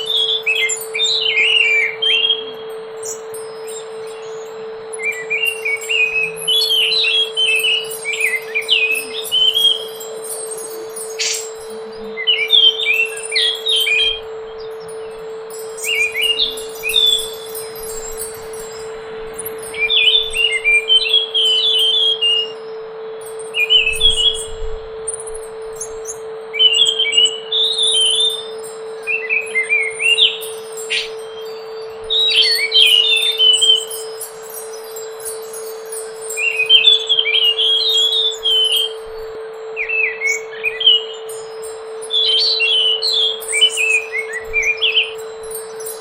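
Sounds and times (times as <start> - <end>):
steady hum: 0.0 - 46.0
thrush singing: 0.0 - 46.0.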